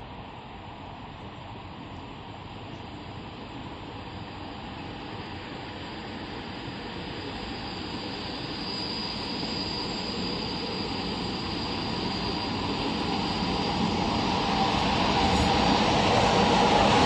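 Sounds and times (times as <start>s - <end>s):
electric locomotive rumbling: 0.0s - 17.0s
faint high whine: 0.0s - 17.0s.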